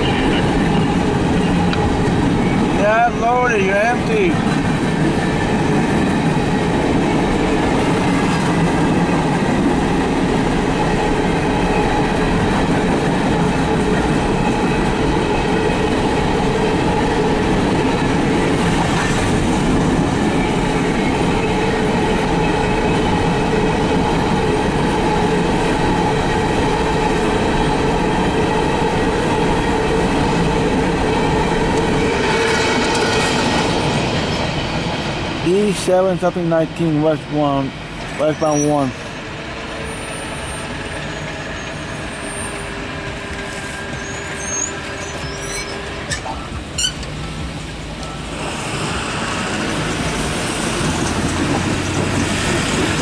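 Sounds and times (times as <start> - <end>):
train cars rumbling and rattling: 0.0 - 53.0.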